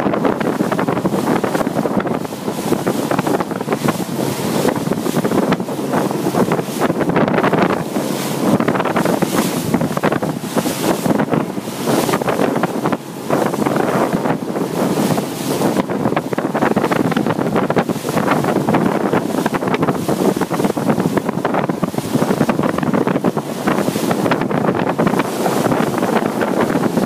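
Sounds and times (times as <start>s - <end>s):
water rushing along boat hull: 0.0s - 27.0s
wind buffeting microphone: 0.0s - 27.0s.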